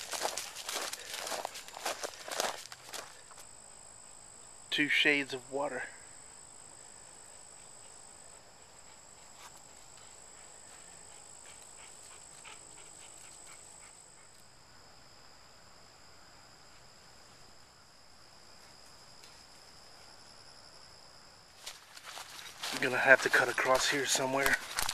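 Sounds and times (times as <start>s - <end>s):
high-pitched insect trill: 0.0s - 24.9s.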